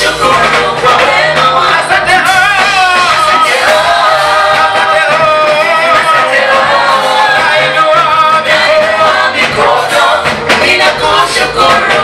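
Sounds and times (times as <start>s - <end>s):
group singing a praise song: 0.0s - 12.0s.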